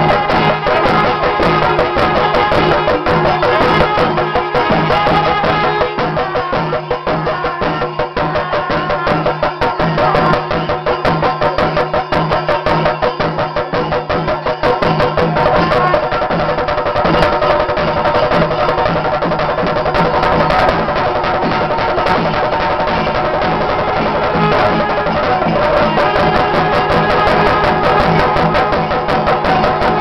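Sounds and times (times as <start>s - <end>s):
drums beaten with sticks: 0.0s - 30.0s
horns holding notes: 0.0s - 30.0s.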